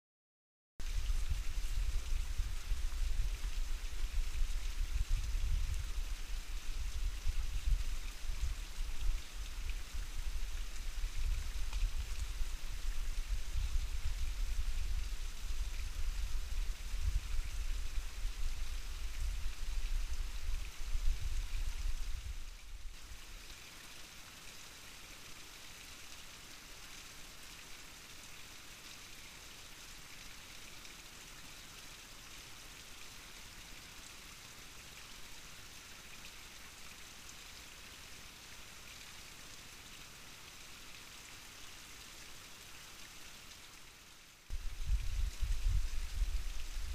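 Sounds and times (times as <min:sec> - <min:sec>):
steady hiss: 0:00.8 - 0:46.9.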